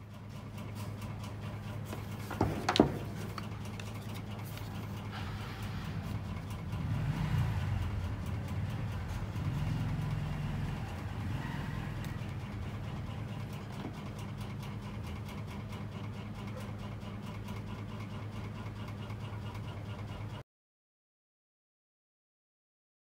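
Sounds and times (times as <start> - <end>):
low mechanical hum: 0.0 - 20.4.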